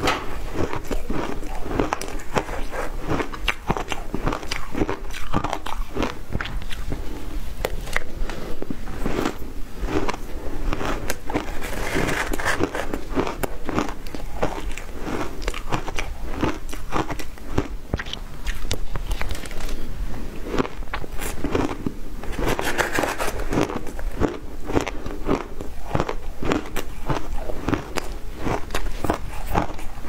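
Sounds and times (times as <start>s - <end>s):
chewing crunchy ice: 0.0s - 30.0s.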